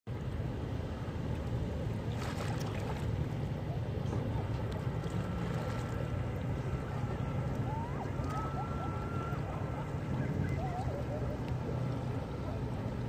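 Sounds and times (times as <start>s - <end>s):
paddle splashing water: 0.1s - 13.0s
wind rumble on microphone: 0.1s - 13.0s.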